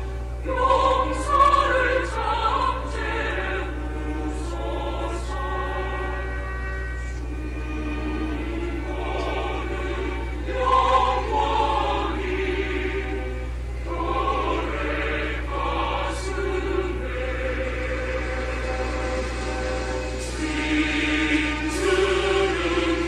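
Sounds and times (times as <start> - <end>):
choir singing held notes: 0.0 - 23.0
low drone: 0.0 - 23.0.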